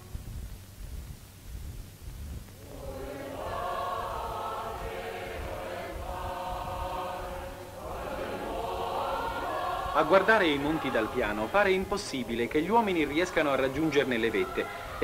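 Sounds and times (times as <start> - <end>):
low background hum: 0.0 - 15.0
choir singing sustained chords: 2.6 - 15.0.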